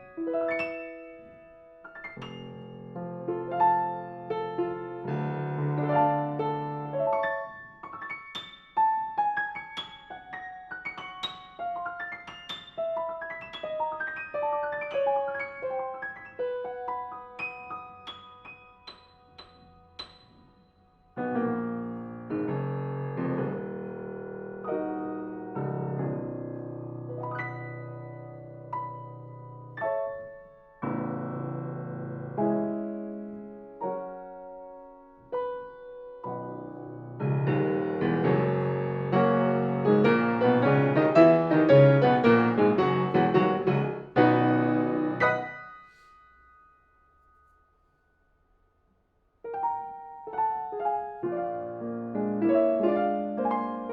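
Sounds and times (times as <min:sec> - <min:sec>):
rapid piano passage: 0:00.0 - 0:48.1, 0:49.4 - 0:53.9
piano chords ringing: 0:00.0 - 0:48.4, 0:49.4 - 0:53.9.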